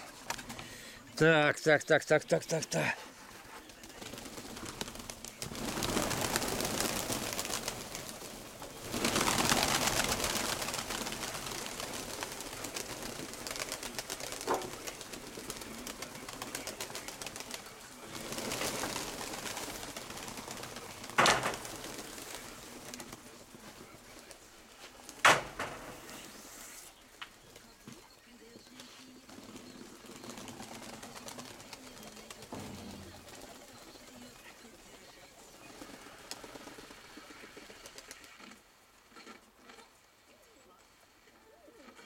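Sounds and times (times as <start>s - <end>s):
pigeons cooing: 2.6s - 38.6s, 41.4s - 42.0s.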